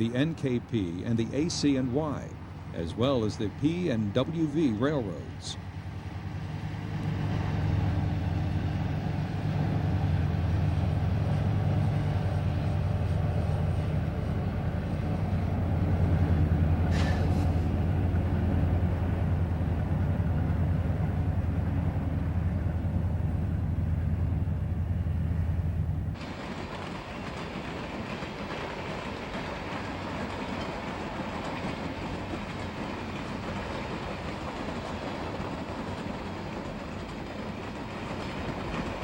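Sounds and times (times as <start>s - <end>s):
diesel locomotive engine drone: 0.0s - 39.0s.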